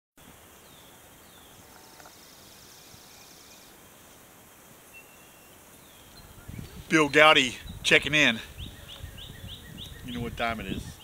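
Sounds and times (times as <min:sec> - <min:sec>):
birds chirping: 0:00.5 - 0:04.2, 0:04.8 - 0:11.0.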